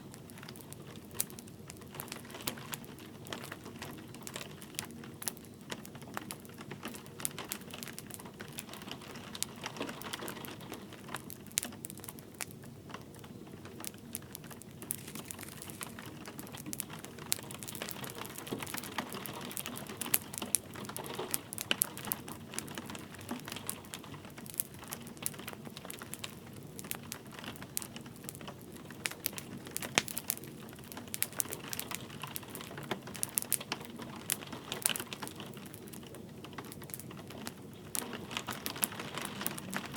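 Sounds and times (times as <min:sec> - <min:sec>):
light rain hissing: 0:00.0 - 0:39.9
wood fire crackling: 0:00.0 - 0:39.9.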